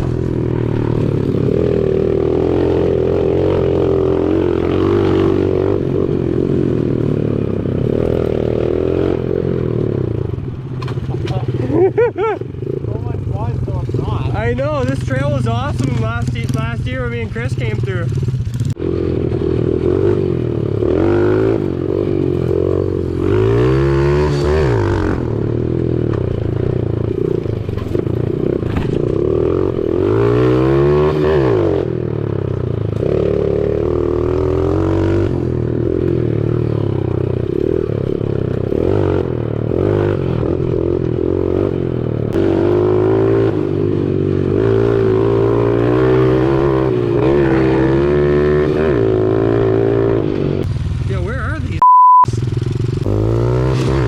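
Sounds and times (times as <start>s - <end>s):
motorbike engine revving: 0.0s - 51.7s, 52.3s - 54.0s.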